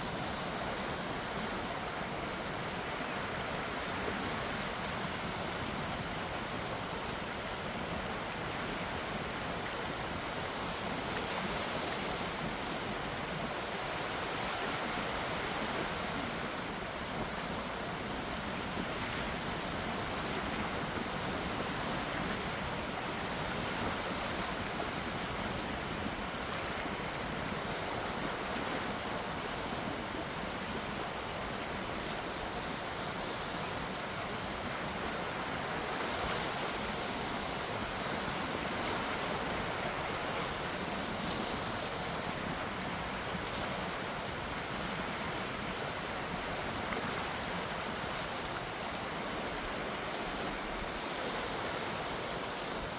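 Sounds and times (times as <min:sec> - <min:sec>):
gentle sea waves washing: 0:00.0 - 0:52.9.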